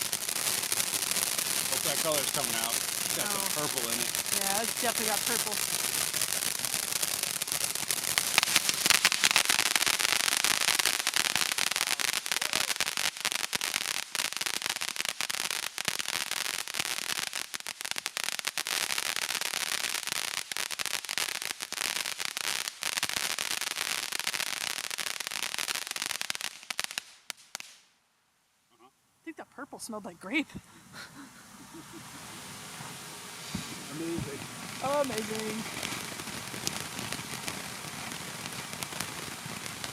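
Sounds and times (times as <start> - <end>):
firework crackling pops: 0.0 - 28.0, 31.5 - 39.9.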